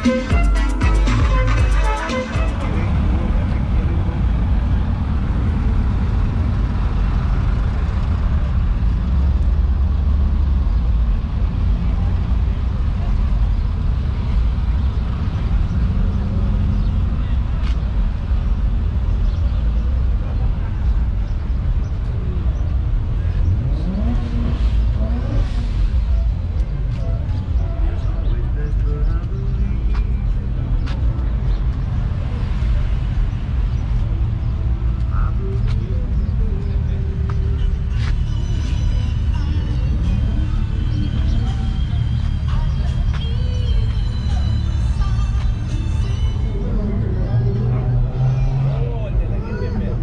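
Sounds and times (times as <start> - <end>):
vehicle engine rumbling: 0.0 - 50.0.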